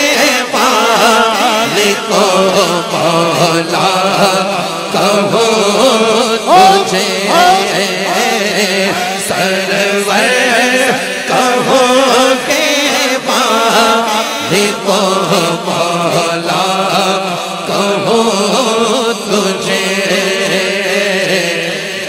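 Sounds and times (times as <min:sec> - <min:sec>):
men singing devotional song: 0:00.0 - 0:22.0.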